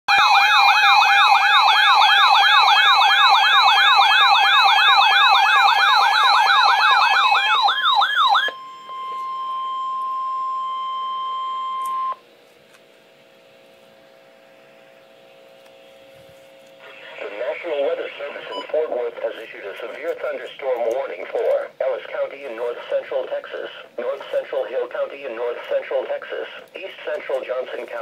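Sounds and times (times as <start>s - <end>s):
faint hum: 4.9s - 28.0s.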